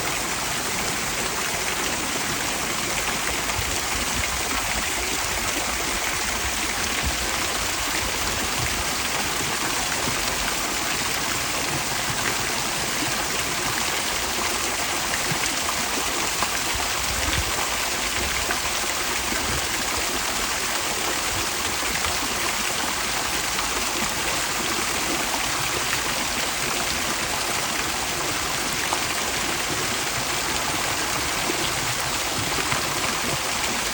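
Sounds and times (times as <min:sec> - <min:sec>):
fountain water pouring into pool: 0:00.0 - 0:33.9.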